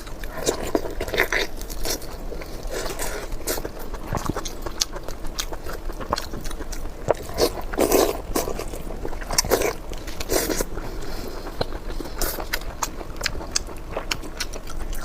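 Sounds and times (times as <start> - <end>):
biting and chewing: 0.0 - 15.0.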